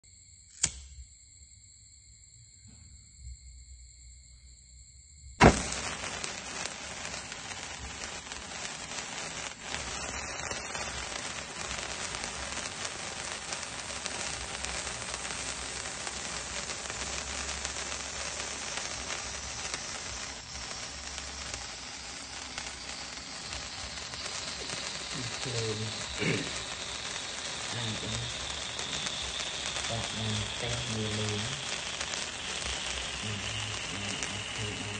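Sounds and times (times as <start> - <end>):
spark fountain igniting crack: 0.5 - 1.0, 5.4 - 34.9
sparks fizzing and crackling: 5.4 - 34.9.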